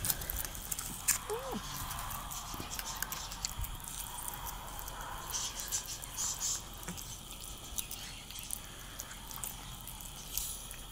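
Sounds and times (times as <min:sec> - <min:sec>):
cats chewing wet food: 0:00.0 - 0:10.9.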